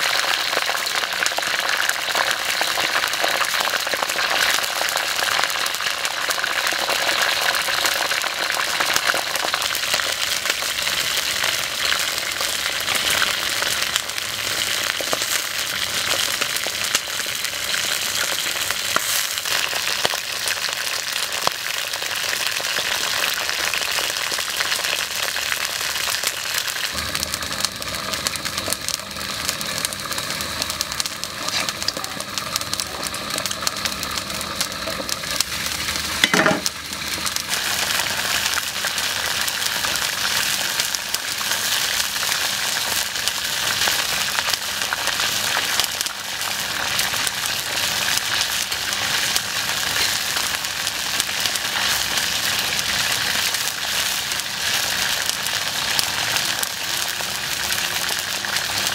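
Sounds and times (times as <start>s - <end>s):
frying in oil sizzling and crackling: 0.0s - 58.9s.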